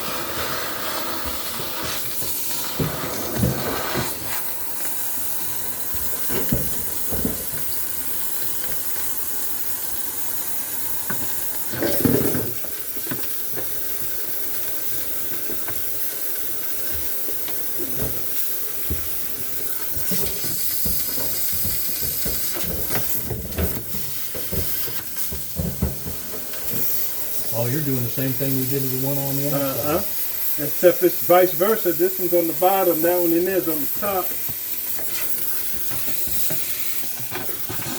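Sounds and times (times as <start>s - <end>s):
defrosting tool hissing: 0.0s - 37.9s.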